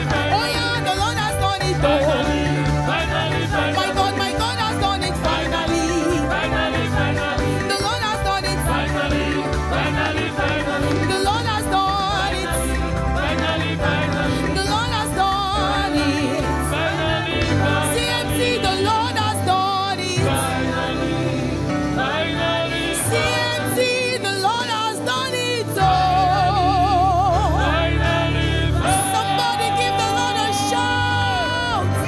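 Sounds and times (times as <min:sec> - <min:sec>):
upbeat gospel music with singing: 0:00.0 - 0:32.0.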